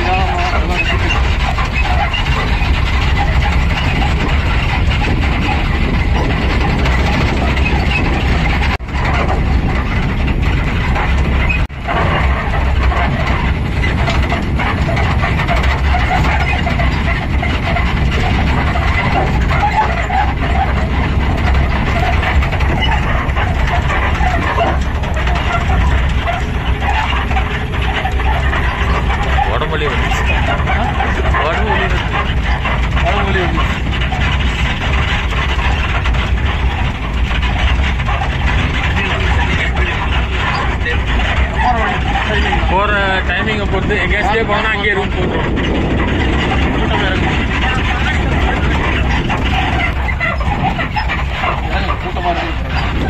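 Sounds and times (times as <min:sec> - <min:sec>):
tyres on dirt track: 0:00.0 - 0:53.0
vehicle engine: 0:00.0 - 0:53.0
wind noise: 0:00.0 - 0:53.0.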